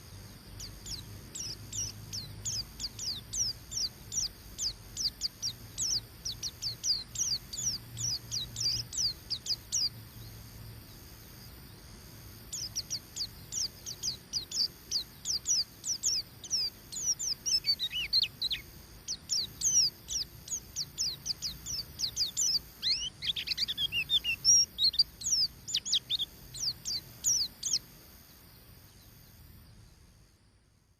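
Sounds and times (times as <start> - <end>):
lower bird twittering: 0.0 - 30.1
bird chirping rapidly: 0.5 - 10.4, 12.5 - 28.0.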